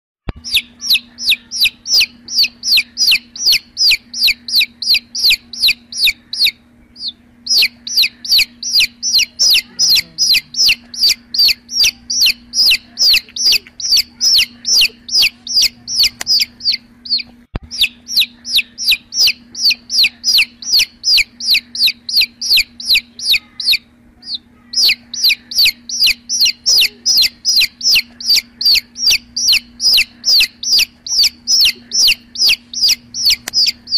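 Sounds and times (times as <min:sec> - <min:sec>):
chick peeping: 0:00.3 - 0:33.9.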